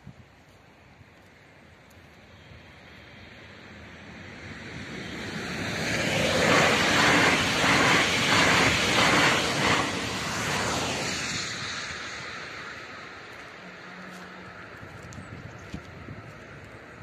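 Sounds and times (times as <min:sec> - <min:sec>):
electric train passing: 0:01.4 - 0:15.0.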